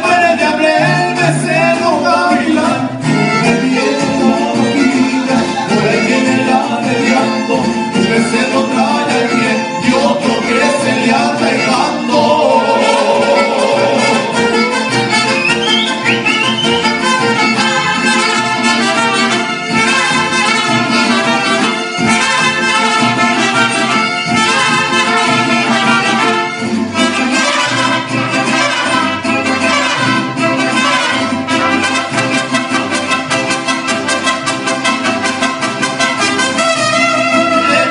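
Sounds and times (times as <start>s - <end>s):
mariachi band playing: 0.0s - 37.9s.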